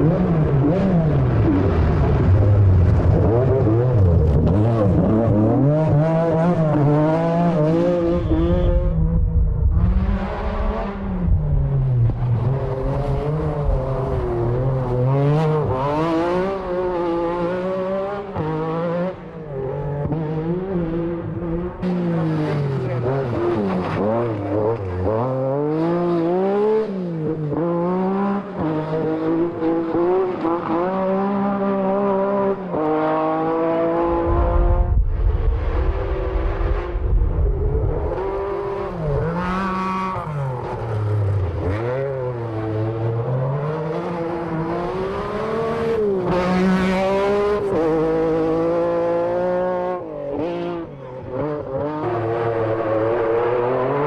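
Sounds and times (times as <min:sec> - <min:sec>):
rally car engine revving hard: 0:00.0 - 0:54.0.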